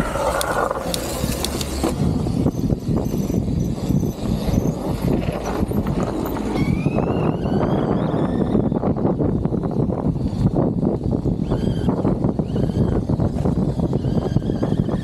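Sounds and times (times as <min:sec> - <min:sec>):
bike rumbling over bumpy dirt: 0:00.0 - 0:15.0
electric motor whine: 0:00.0 - 0:15.0.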